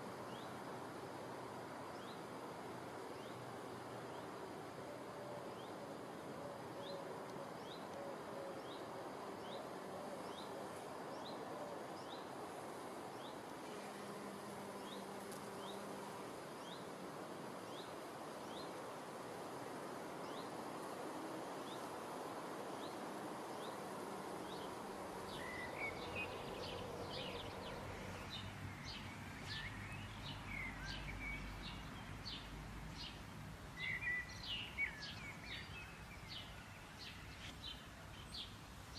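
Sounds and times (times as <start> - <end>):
background hiss: 0.0 - 38.9.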